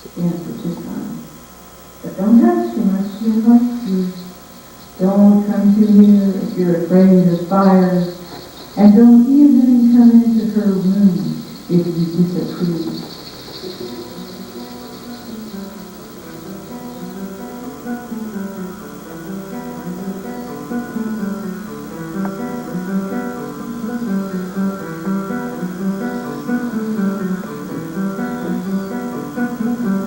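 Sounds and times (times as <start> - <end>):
acoustic guitar plucked notes: 2.0 - 30.0.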